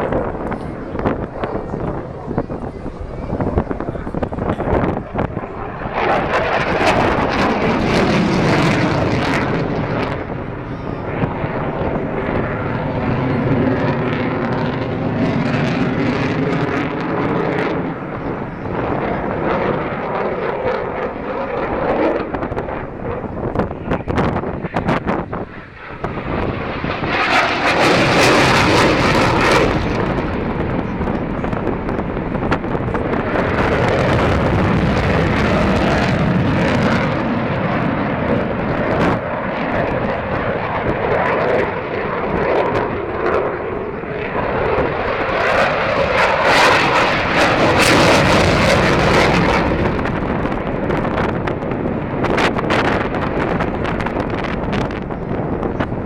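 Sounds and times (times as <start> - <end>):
jet engine noise: 0.0 - 56.0
wind gusts on microphone: 0.0 - 56.0.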